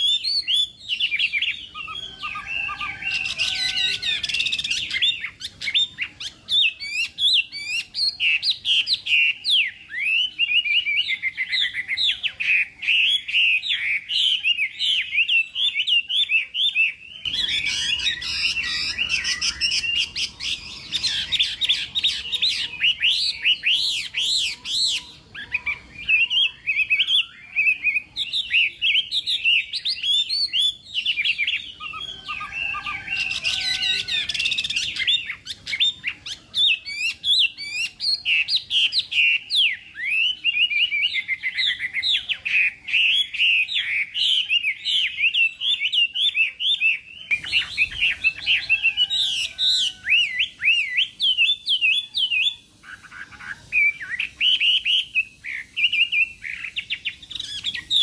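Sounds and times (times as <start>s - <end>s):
bird singing whistled phrases: 0.0s - 58.0s.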